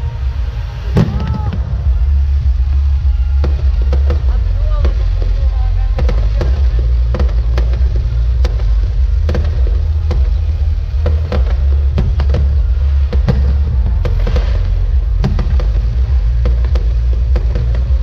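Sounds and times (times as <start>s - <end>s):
fireworks bangs and pops: 0.0s - 18.0s
low rumble: 0.0s - 18.0s.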